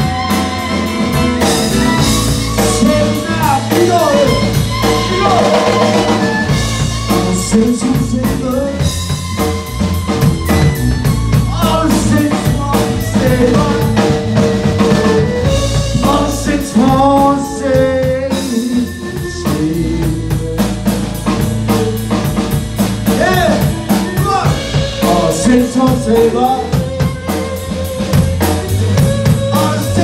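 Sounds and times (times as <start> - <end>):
bass guitar: 0.0 - 30.0
drum kit beat: 0.0 - 30.0
strummed guitar: 0.0 - 30.0
violin melody: 0.0 - 30.0.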